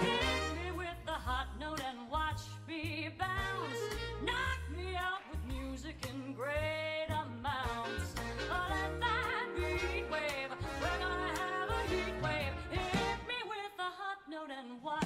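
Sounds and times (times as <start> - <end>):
big-band jazz music: 0.0 - 2.3, 3.2 - 13.4.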